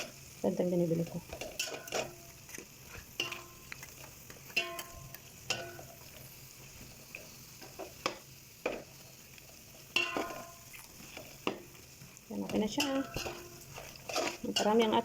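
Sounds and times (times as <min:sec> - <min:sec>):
low sizzle: 0:00.0 - 0:15.0
utensil scraping in a wok: 0:00.0 - 0:15.0.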